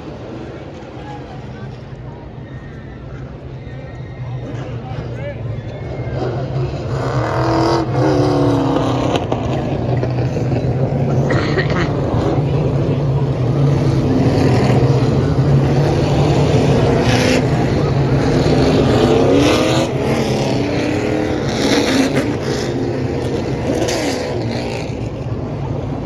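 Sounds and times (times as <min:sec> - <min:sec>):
race car engines passing by: 0:00.0 - 0:26.0.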